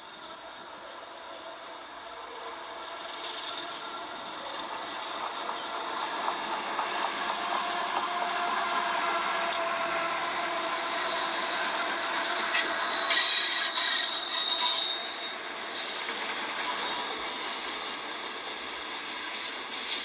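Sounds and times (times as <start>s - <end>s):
diesel locomotive engine: 0.0s - 20.0s
train rail noise: 0.0s - 20.0s.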